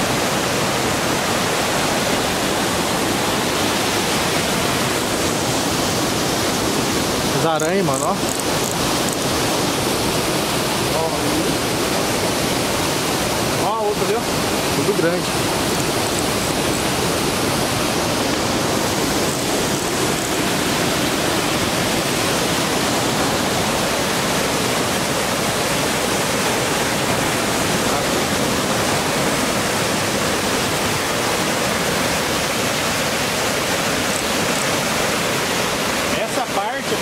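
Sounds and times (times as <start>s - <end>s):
waterfall and river rushing: 0.0s - 37.0s.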